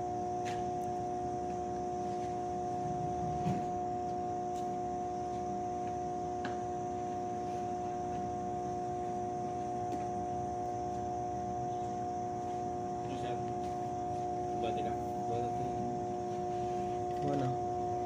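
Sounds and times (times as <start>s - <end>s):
transformer electrical hum: 0.0s - 18.0s.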